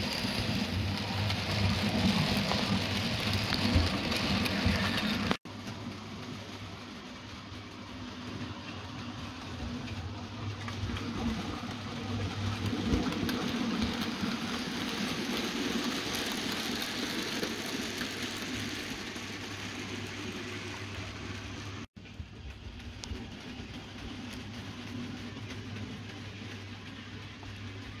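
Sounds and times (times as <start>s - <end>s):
model train wheels on track: 0.0s - 28.0s.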